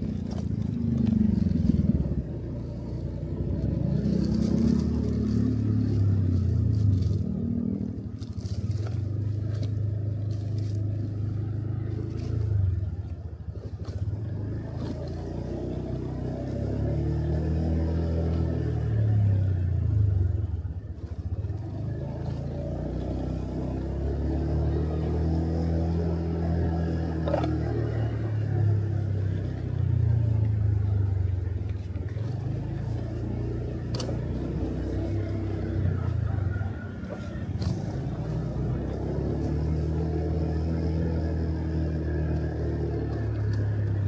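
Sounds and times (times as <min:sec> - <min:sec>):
small motorcycle engine running: 0:00.0 - 0:44.0.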